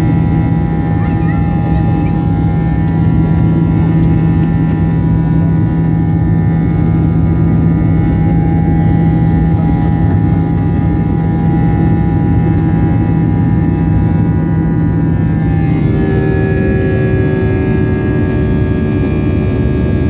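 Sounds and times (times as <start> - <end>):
jet engines droning: 0.0 - 20.0.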